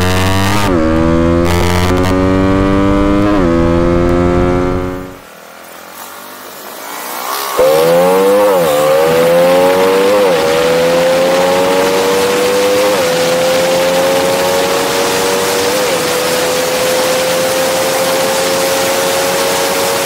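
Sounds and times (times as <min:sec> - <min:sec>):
motorcycle engine at full throttle: 0:00.0 - 0:20.0.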